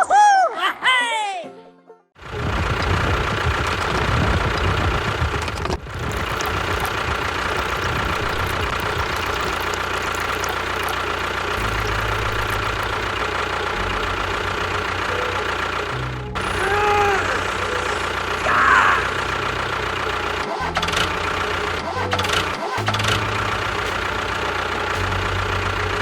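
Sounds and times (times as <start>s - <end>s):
small motor chugging and whining: 2.3s - 26.0s.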